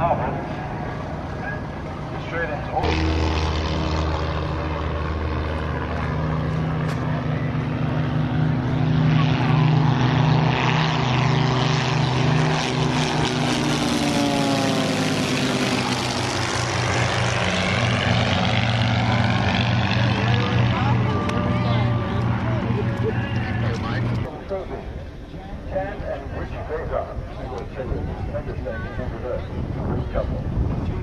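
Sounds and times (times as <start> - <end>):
propeller aircraft engines droning: 0.0 - 31.0.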